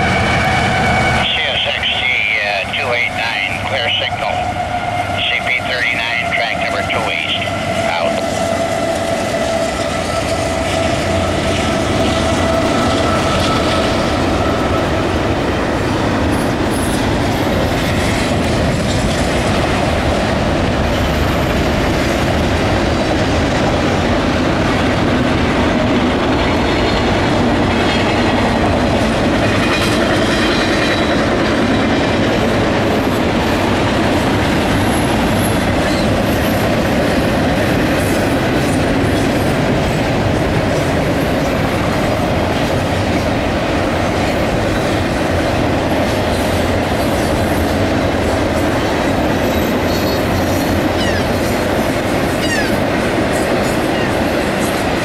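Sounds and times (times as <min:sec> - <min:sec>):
freight train rumbling: 0:00.0 - 0:55.0
locomotive whine: 0:00.0 - 0:55.0
train cars clickety-clack: 0:00.0 - 0:55.0.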